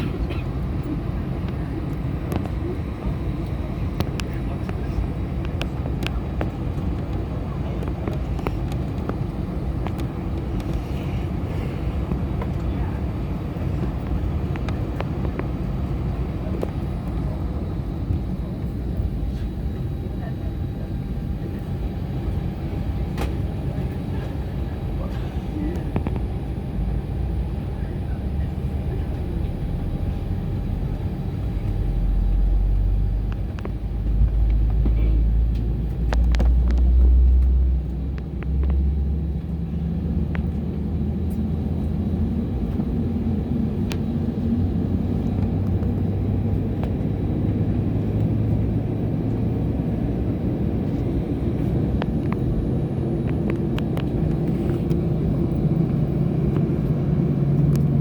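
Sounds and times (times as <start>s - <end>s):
airplane cabin rumble while taxiing: 0.0s - 58.0s.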